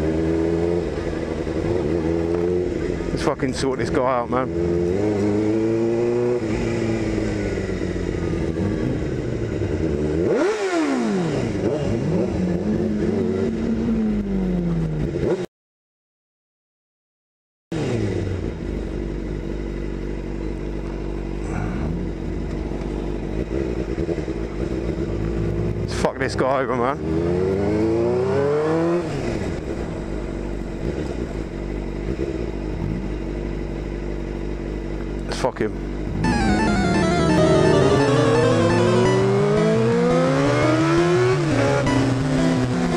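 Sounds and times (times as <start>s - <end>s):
motorcycle engine revving: 0.0s - 3.3s, 4.1s - 15.5s, 17.7s - 26.0s, 26.7s - 35.0s, 35.8s - 42.9s.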